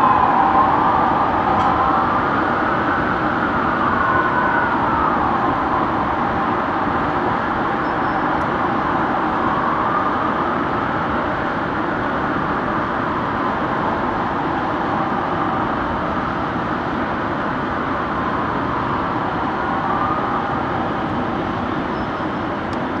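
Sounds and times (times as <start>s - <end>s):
city traffic rush: 0.0s - 23.0s
faint fire engine siren wailing: 0.0s - 23.0s.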